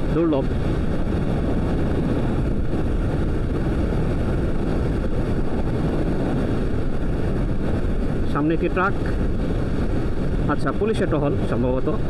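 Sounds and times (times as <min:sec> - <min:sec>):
motorcycle road noise: 0:00.0 - 0:12.0
wind rushing over microphone: 0:00.0 - 0:12.0.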